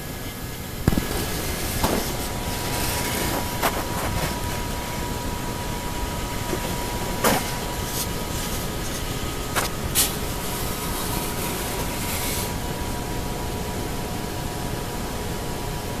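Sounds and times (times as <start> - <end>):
mill motor hum with high whine: 0.0 - 16.0.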